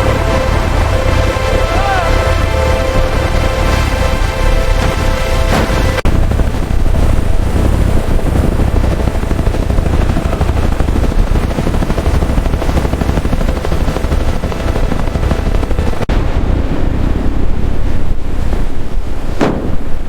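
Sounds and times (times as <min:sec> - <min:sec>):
helicopter rotor chopping: 0:00.0 - 0:16.1.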